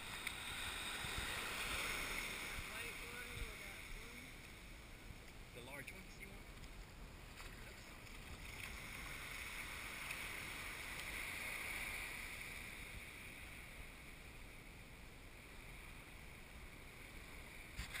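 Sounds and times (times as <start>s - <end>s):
breeze and surf hiss: 0.0s - 18.0s.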